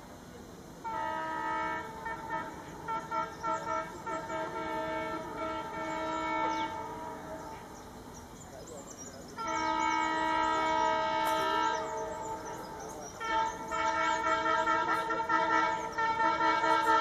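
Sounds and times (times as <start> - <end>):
locomotive horn blasts: 0.8 - 7.8, 9.4 - 17.0.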